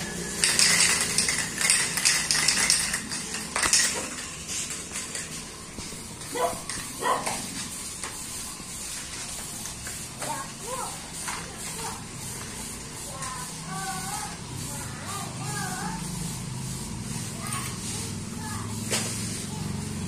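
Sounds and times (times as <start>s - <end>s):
spray-paint can hissing: 0.0s - 20.0s.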